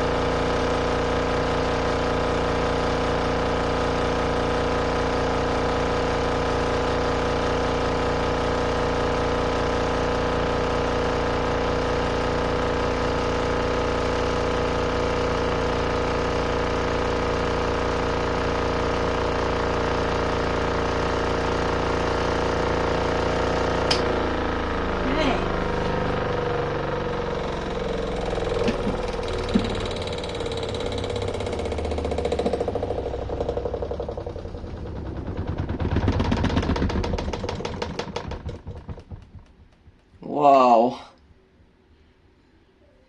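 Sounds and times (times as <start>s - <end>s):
washing machine motor humming: 0.0s - 41.0s.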